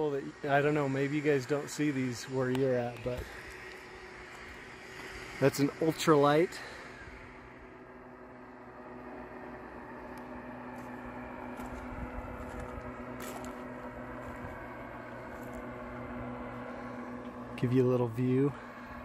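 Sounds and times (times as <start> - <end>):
distant paraglider engine humming: 0.0 - 19.0.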